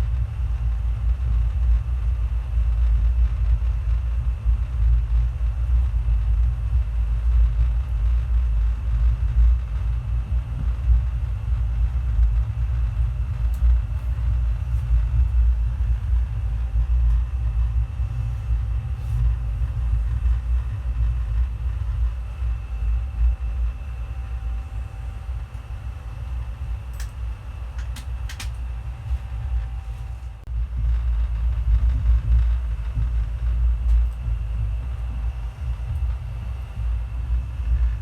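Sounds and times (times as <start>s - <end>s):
passenger train rumbling: 0.0s - 38.0s.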